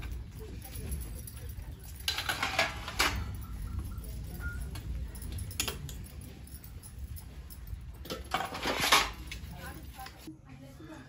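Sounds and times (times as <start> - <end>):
low steady rumble: 0.0 - 10.2
metal dishes clinking: 0.0 - 10.3.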